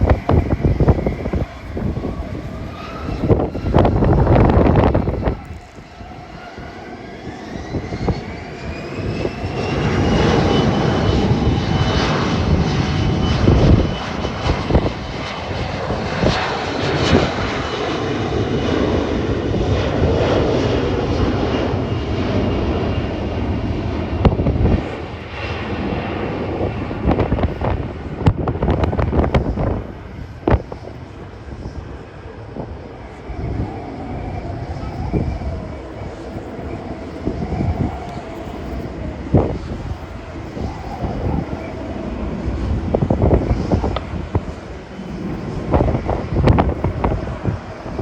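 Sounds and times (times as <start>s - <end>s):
jet engines whining and rumbling: 0.0s - 48.0s
wind buffeting microphone: 0.0s - 48.0s.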